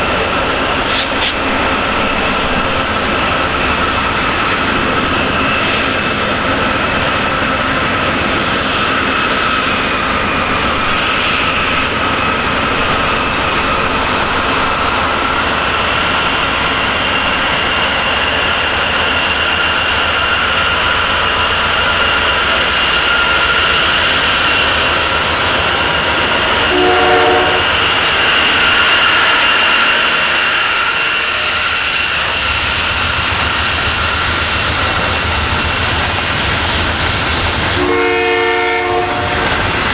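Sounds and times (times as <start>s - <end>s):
diesel locomotives passing: 0.0s - 39.9s.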